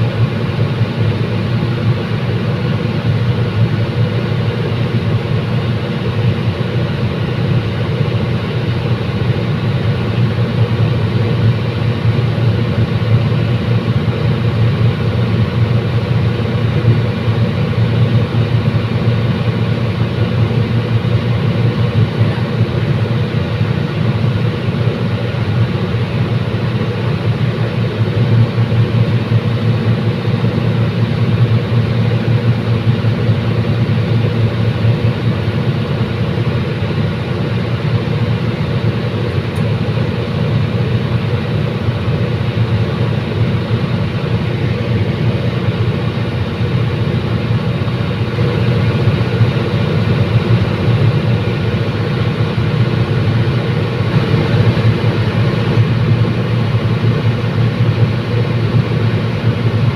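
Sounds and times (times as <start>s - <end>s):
diesel train engine drone: 0.0s - 59.9s.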